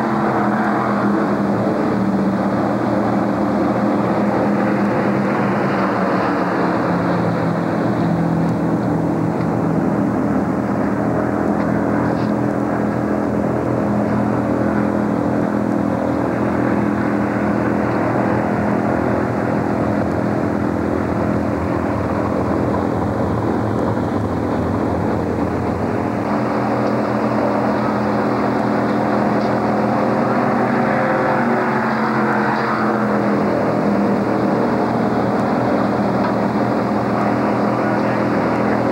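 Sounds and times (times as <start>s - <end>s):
race car engines droning: 0.0s - 38.9s.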